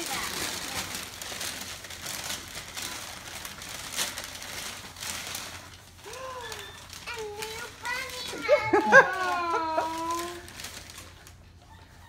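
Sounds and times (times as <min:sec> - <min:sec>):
paper gift wrapping crinkling: 0:00.0 - 0:12.0.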